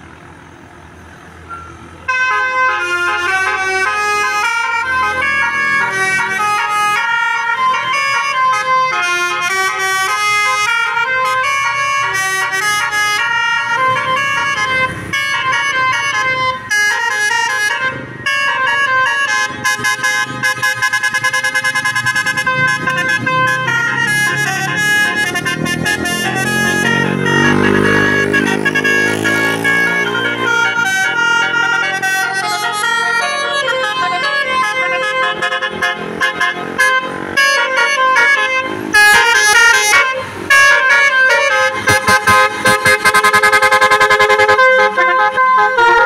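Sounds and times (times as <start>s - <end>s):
multi-tone bus air horn tune: 1.5s - 46.0s.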